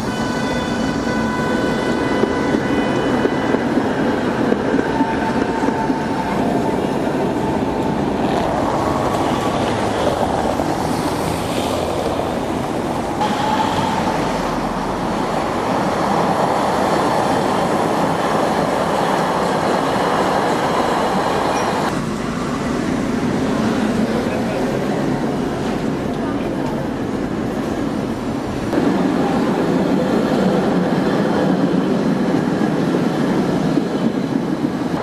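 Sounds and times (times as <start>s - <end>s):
traffic: 0.0s - 35.0s
trams rumbling on rails: 0.0s - 35.0s.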